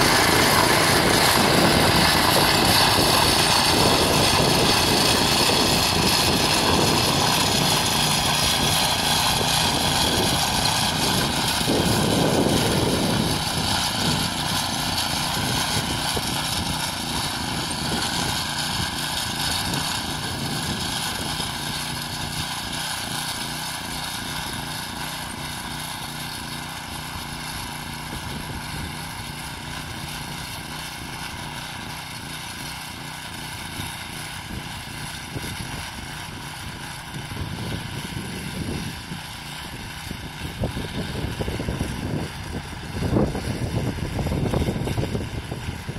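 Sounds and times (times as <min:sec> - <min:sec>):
tiller engine running: 0:00.0 - 0:45.9
tines churning soil: 0:00.0 - 0:45.9.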